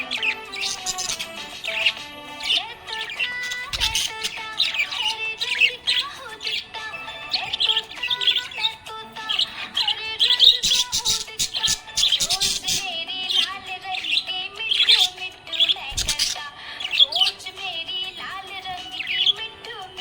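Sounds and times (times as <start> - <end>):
background music with held notes: 0.0 - 20.0
budgerigar chirping and warbling: 0.0 - 20.0.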